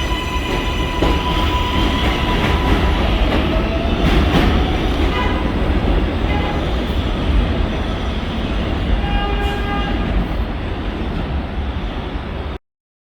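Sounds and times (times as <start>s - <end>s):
train wheels rumbling on rail: 0.0s - 12.6s.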